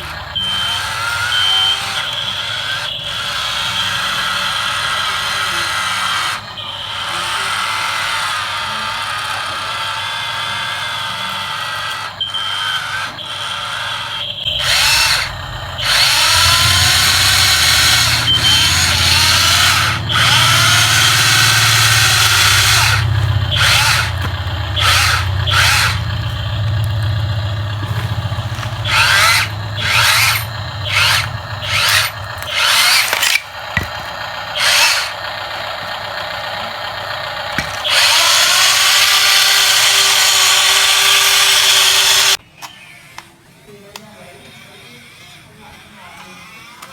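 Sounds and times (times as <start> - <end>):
small electric motor whirring: 0.0 - 43.2.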